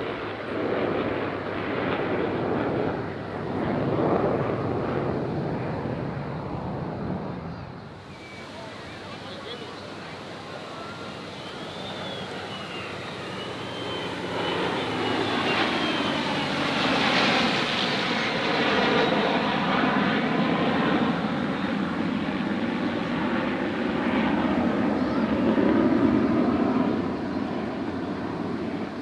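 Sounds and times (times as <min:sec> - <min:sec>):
military aircraft flying past: 0:00.0 - 0:29.0.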